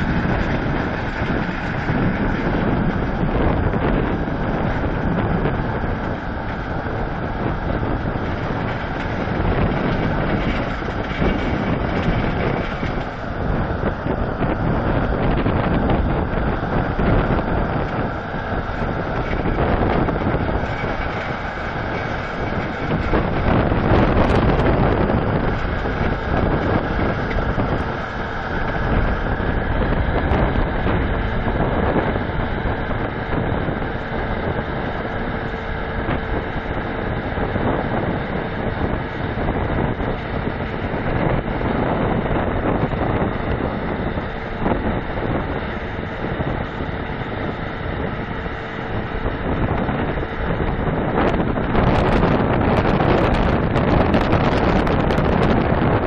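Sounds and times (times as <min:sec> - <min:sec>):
diesel engines running: 0:00.0 - 0:56.0
faint steady whine: 0:00.0 - 0:56.0.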